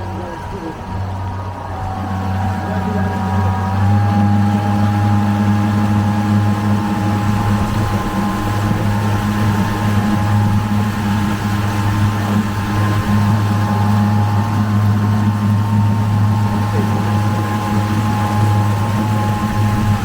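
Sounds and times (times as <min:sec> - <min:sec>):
electric motor whine: 0:00.0 - 0:20.0
low rumble of hull and water: 0:00.0 - 0:20.0.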